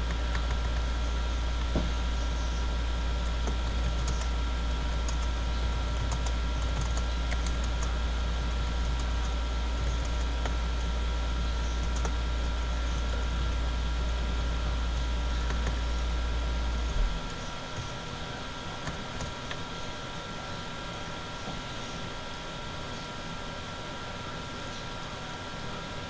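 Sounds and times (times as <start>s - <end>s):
low electrical hum and hiss: 0.0s - 23.3s.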